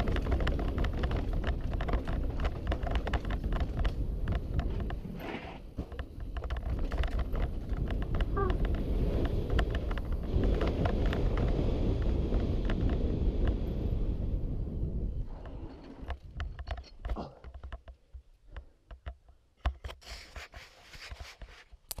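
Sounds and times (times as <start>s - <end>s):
wind noise: 0.0s - 17.9s
bike tyre rumble on dirt: 0.0s - 18.8s.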